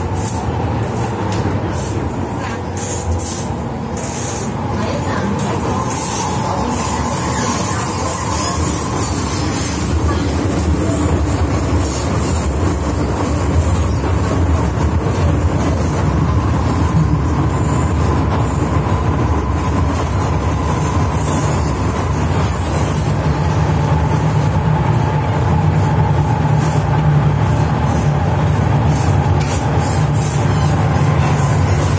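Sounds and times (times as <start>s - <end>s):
train wheels rumbling in tunnel: 0.0s - 31.9s.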